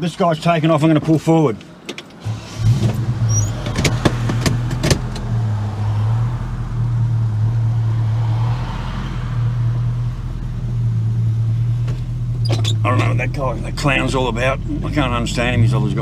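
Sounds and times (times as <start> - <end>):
car engine running: 1.6 - 16.0.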